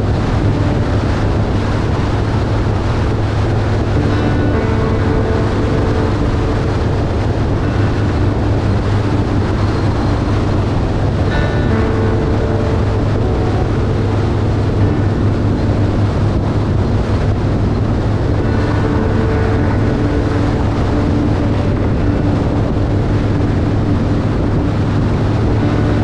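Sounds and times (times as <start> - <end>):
motorcycle engine drone: 0.0 - 26.0
wind rushing over microphone: 0.0 - 26.0.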